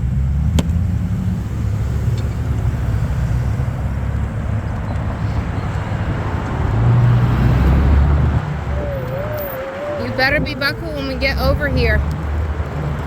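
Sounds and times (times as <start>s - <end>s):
wind and road rumble: 0.0s - 13.0s.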